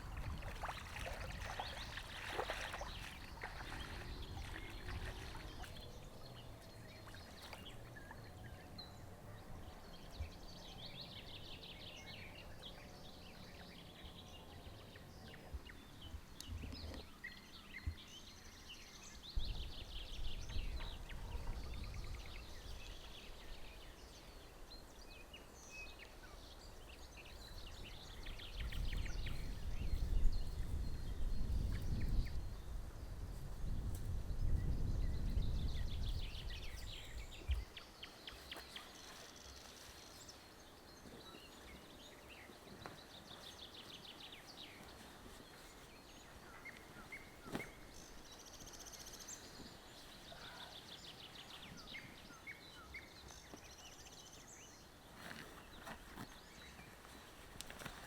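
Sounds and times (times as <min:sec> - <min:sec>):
small birds singing: 0:00.0 - 0:58.0.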